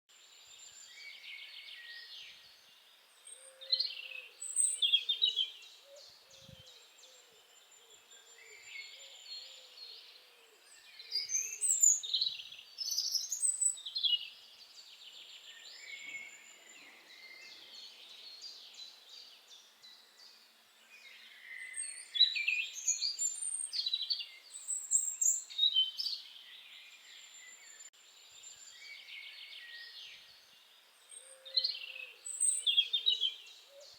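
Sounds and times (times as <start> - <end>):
small birds chirping: 0.3 - 33.9.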